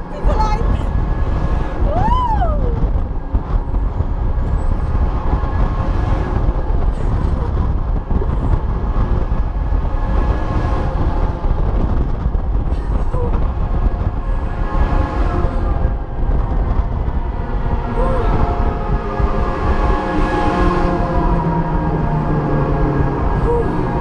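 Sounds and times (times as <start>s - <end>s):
fairground ride rumble and rushing: 0.0s - 24.0s.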